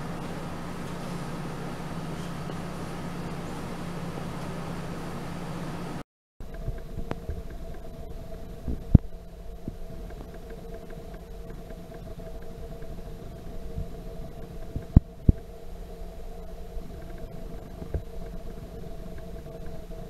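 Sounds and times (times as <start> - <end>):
faint steady tones: 0.0 - 20.0
room hum with low rumble: 0.0 - 20.0.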